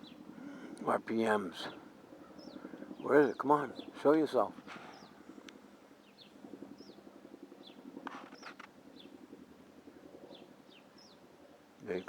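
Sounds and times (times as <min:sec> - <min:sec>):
distant helicopter rotor beating: 0:00.0 - 0:12.0.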